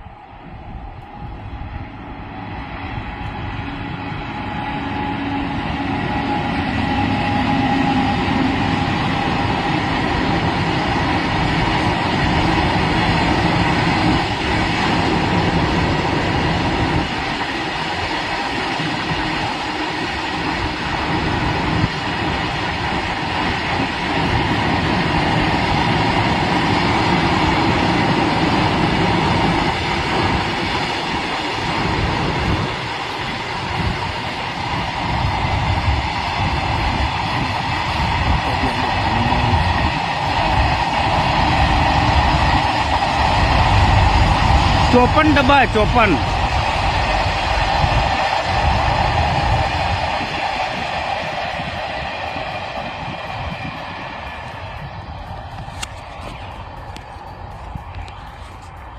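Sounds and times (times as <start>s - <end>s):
train wheels rumbling on track: 0.0s - 58.9s.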